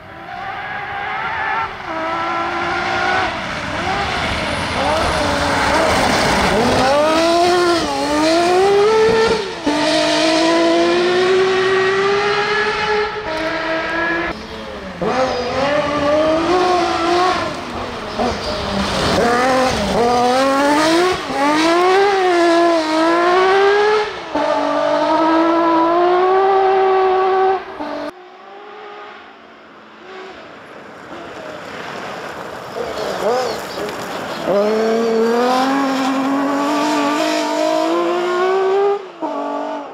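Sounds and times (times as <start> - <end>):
rally car engine revving: 0.4 - 29.4, 30.0 - 39.9.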